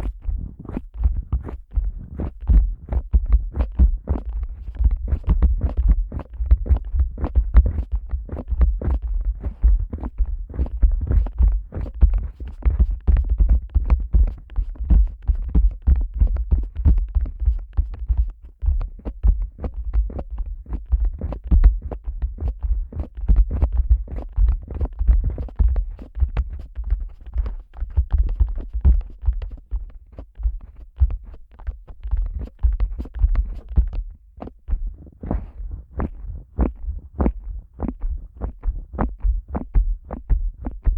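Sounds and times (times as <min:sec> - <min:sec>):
fingers tapping on microphone: 0:00.0 - 0:40.9.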